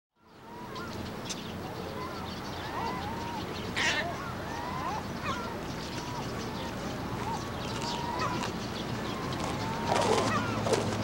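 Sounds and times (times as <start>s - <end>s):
ducks and gulls calling: 0.2s - 11.0s
steady low background noise: 0.2s - 11.0s
harsh bird call: 1.7s - 10.9s.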